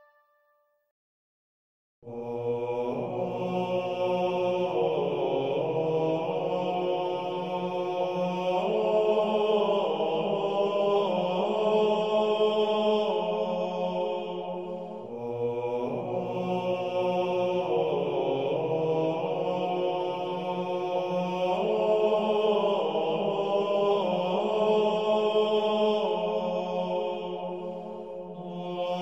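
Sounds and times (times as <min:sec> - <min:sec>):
low voices chanting: 0:02.1 - 0:29.0.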